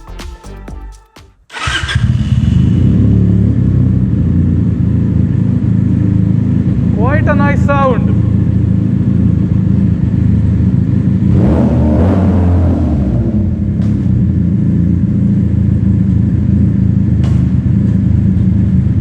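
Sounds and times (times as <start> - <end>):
motorcycle engine running loud: 1.6 - 19.0.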